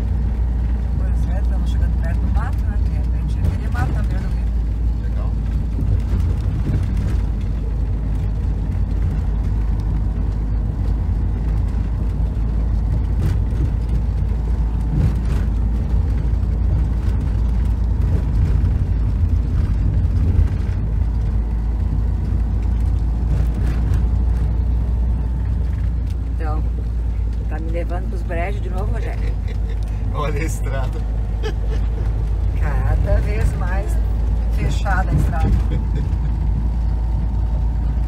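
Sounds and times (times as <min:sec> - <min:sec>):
engine and tyres rumbling: 0:00.0 - 0:38.0.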